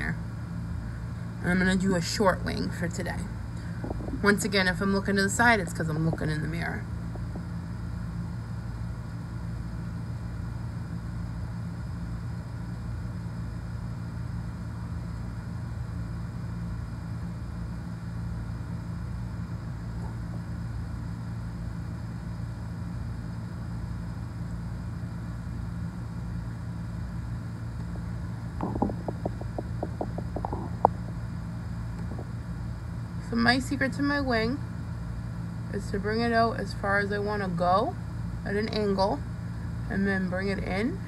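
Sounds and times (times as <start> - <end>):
low machine hum: 0.0 - 41.0.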